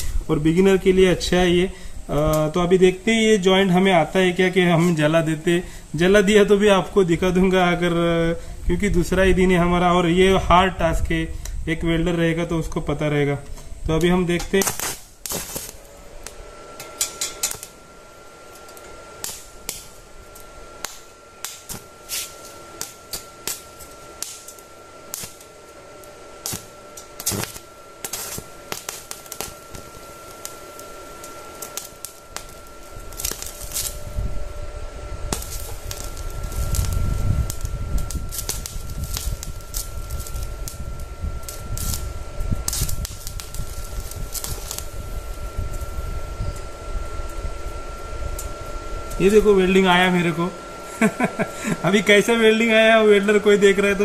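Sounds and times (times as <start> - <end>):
faint thin whine: 0.0 - 54.0
welding arc crackling and popping: 0.0 - 54.0.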